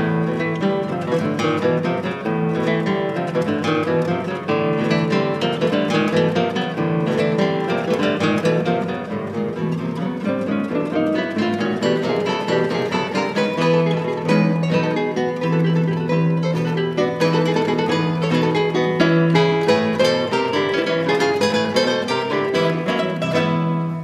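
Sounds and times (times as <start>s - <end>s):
classical guitars playing: 0.0s - 24.0s.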